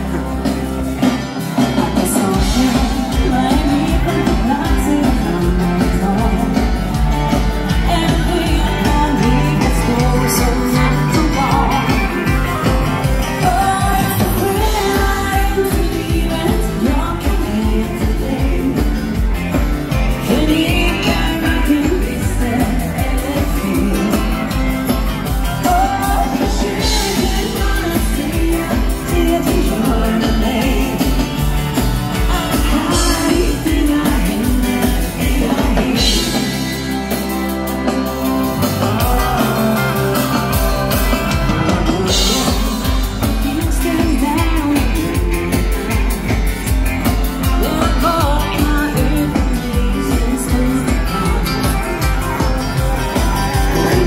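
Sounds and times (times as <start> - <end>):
dance band music: 0.0 - 54.0
woman singing: 1.5 - 37.2, 41.3 - 52.2.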